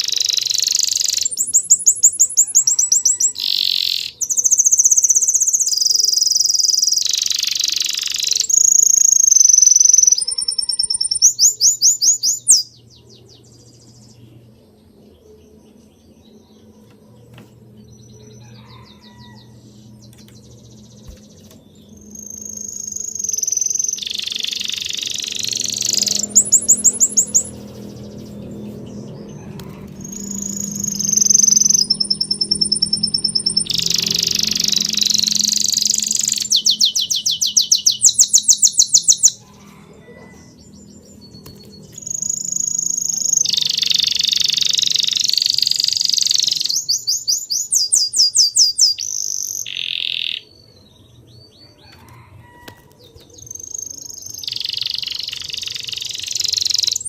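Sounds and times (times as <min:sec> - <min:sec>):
birds singing whistles and trills: 0:00.0 - 0:57.0.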